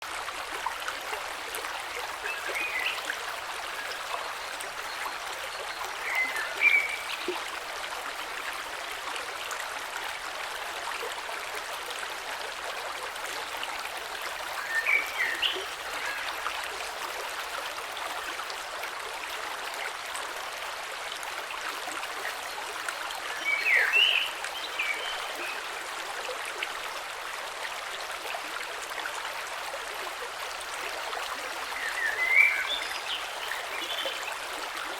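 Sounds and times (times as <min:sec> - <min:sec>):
creek flowing over stones: 0:00.0 - 0:34.9.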